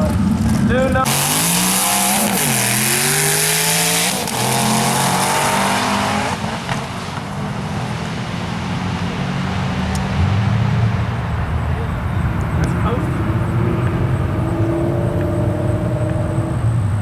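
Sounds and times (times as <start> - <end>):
race car accelerating: 0.0 - 17.0.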